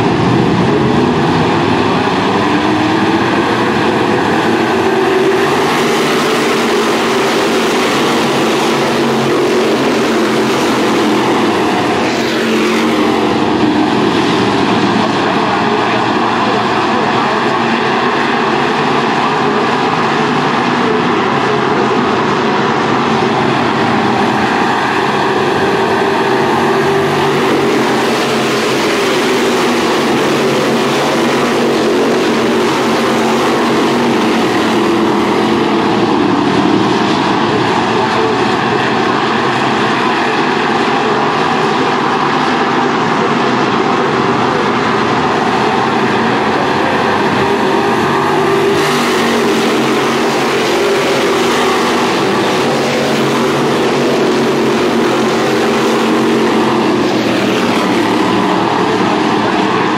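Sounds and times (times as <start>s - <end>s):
race car engines running hard: 0.0s - 59.9s.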